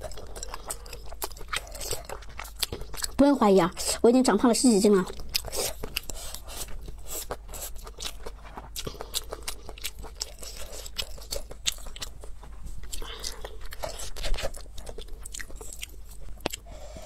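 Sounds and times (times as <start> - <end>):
person chewing food: 0.0 - 4.0, 5.0 - 17.0.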